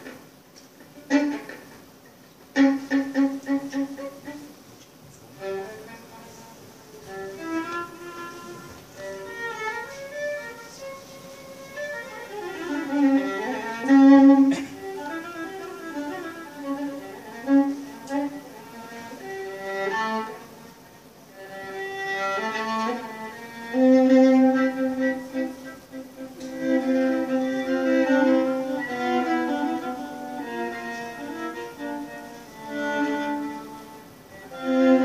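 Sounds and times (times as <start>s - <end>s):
solo violin: 0.0s - 35.0s.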